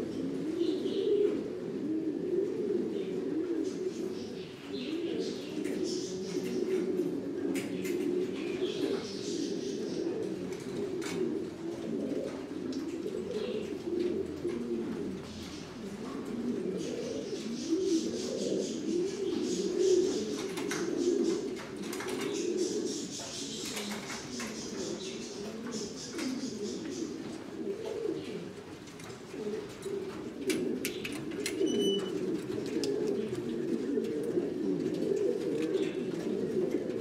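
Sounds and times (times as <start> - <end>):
pigeons cooing: 0.0 - 37.0.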